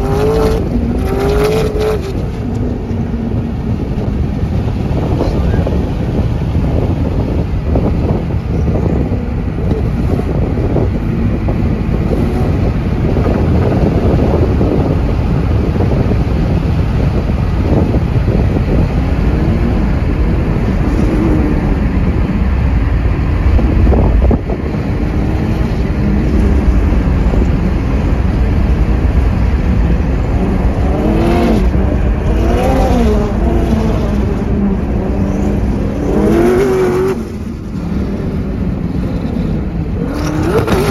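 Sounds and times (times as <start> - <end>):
engine revving under acceleration: 0.0 - 40.9
heavy low rumble: 0.0 - 40.9.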